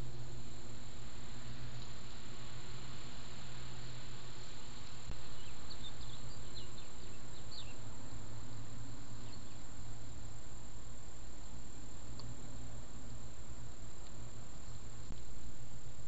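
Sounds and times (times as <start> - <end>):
microphone hiss and hum: 0.0 - 16.0.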